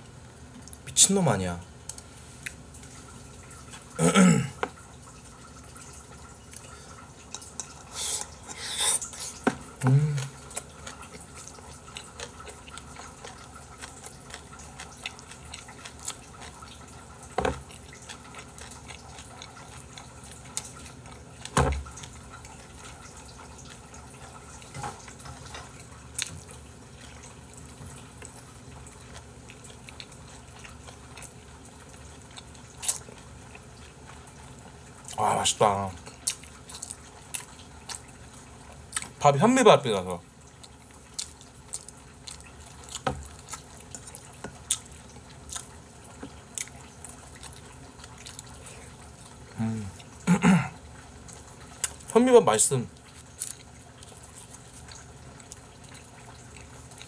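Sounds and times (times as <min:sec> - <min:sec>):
chewing and mouth noises: 0:01.8 - 0:39.2, 0:40.3 - 0:52.2, 0:52.9 - 0:57.0.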